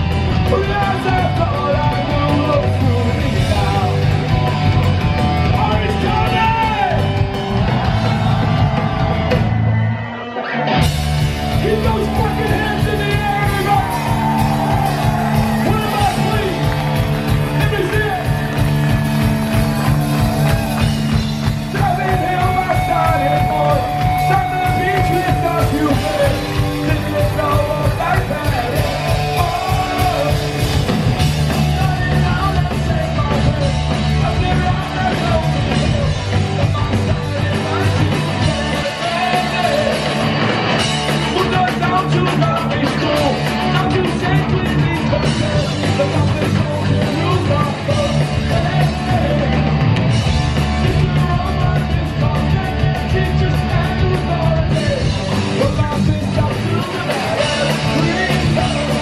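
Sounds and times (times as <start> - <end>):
live punk rock band playing: 0.0 - 59.0.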